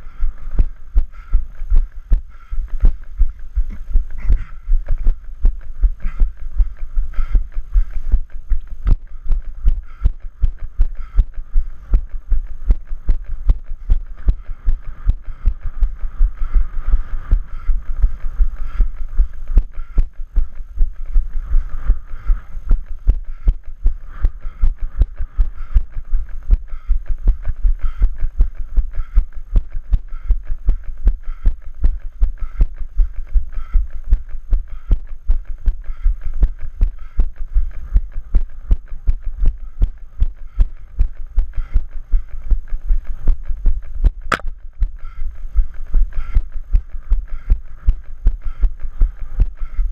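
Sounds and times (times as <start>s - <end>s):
low rumble of movement: 0.0s - 49.6s.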